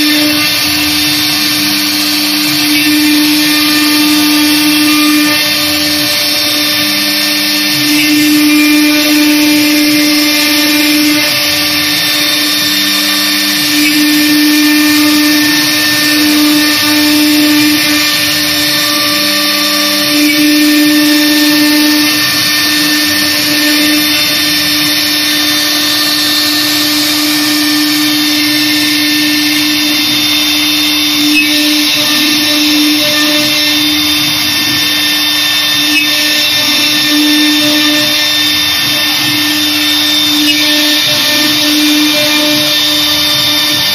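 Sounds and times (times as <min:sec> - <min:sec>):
router spindle whining: 0:00.0 - 0:43.9.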